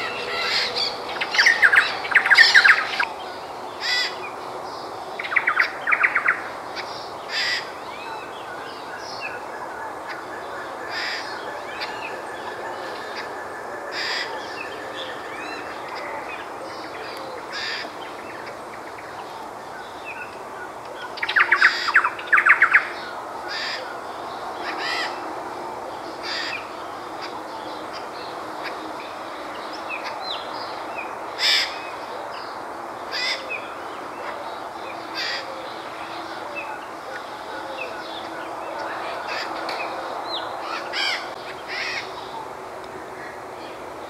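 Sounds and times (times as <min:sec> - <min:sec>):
steady background noise: 0:00.0 - 0:44.0
wild birds calling: 0:00.0 - 0:44.0.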